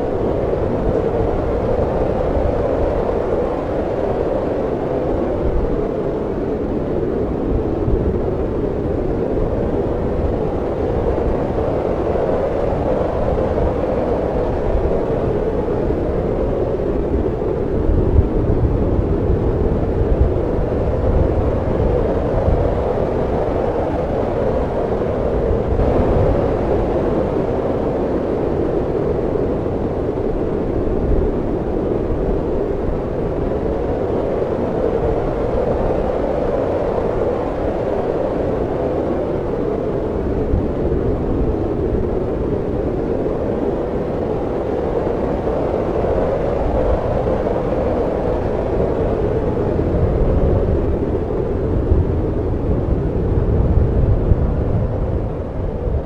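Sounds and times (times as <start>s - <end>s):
snowstorm wind rushing: 0.0s - 56.0s.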